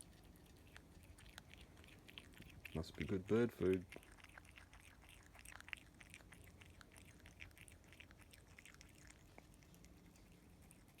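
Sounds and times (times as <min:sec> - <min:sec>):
possum chewing seed: 0:00.0 - 0:11.0.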